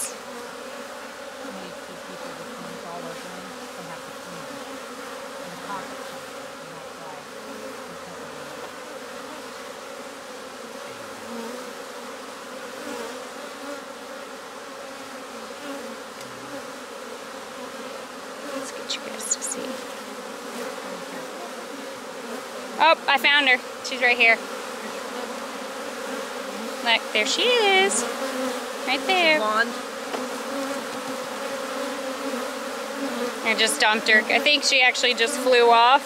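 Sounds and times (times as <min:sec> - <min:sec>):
bee swarm buzzing: 0:00.0 - 0:36.0.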